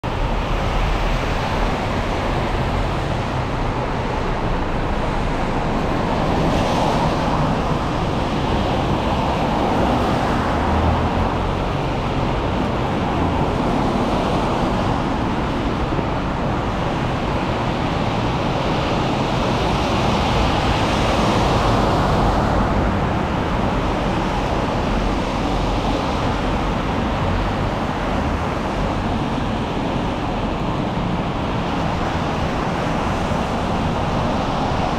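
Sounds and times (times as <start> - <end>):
traffic on wet road: 0.0 - 34.9.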